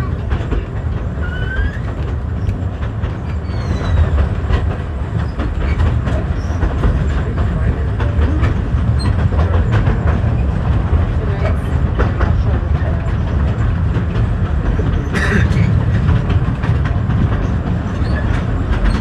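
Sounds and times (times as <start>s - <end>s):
train rumbling on track: 0.0s - 19.0s
wheels clicking over rail joints: 0.0s - 19.0s.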